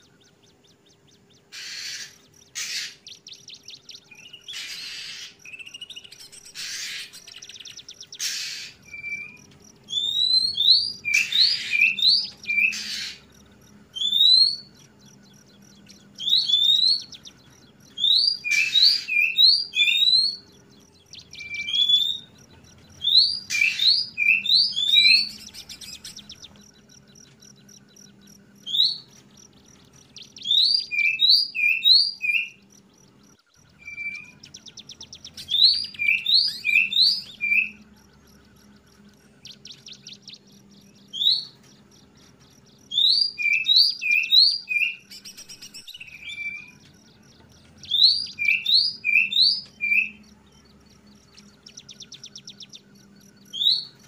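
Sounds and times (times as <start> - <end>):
bird singing whistles: 1.5 - 13.3, 13.9 - 27.0, 28.0 - 29.1, 30.0 - 32.7, 33.6 - 38.8, 39.4 - 41.6, 42.8 - 54.0.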